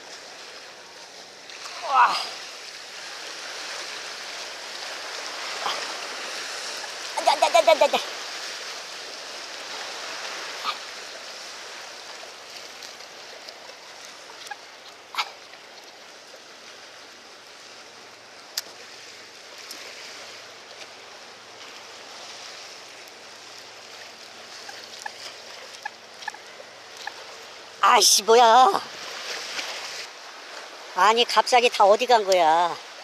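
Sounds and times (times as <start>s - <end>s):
sea water washing on breakwater: 0.0s - 33.0s.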